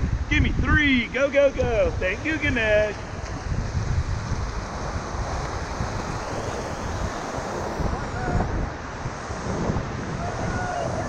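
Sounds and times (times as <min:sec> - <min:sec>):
wind buffeting microphone: 0:00.0 - 0:11.0
rushing whitewater: 0:02.0 - 0:11.0.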